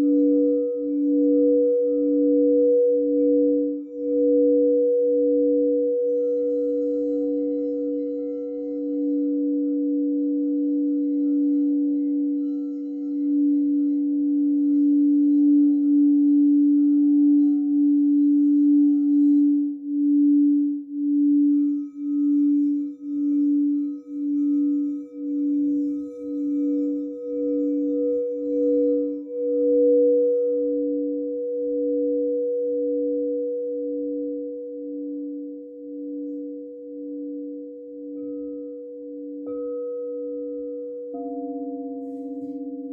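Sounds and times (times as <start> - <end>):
singing bowl ringing: 0.0 - 42.9.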